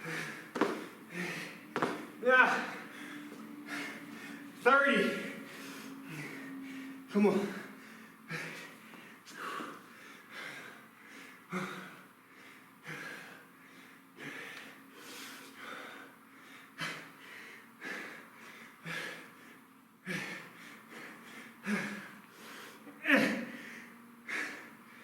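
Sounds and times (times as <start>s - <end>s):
man breathing hard: 0.0s - 25.0s.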